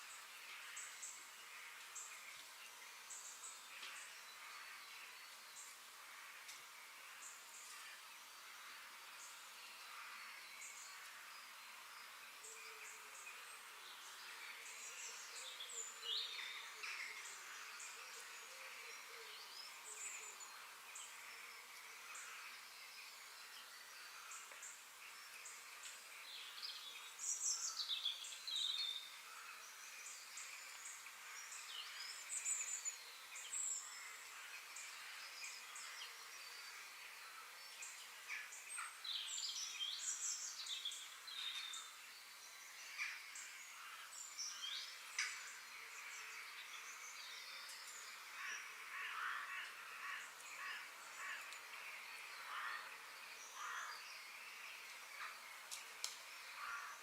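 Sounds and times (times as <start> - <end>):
small birds chirping: 0.0 - 57.0
steady high background hiss: 0.0 - 57.0.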